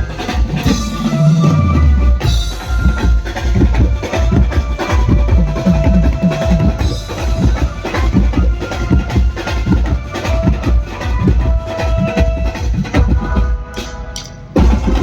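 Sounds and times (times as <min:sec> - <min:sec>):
deep bass drum: 0:00.0 - 0:13.6, 0:14.6 - 0:15.0
drums playing fast rhythm: 0:00.0 - 0:15.0.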